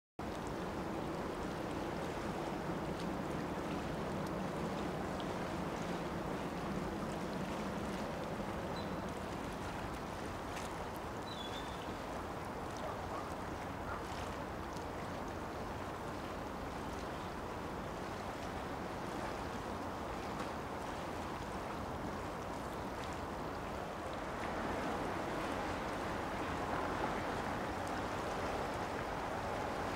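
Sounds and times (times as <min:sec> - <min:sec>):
wind and water noise: 0:00.2 - 0:29.9.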